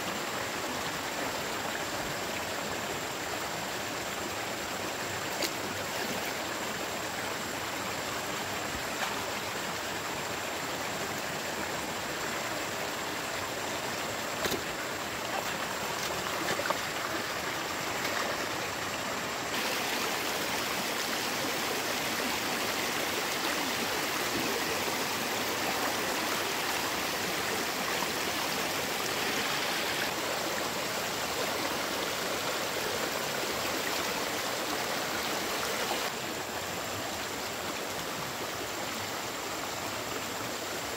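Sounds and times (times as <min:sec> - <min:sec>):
stream water rushing and splashing: 0:00.0 - 0:40.9.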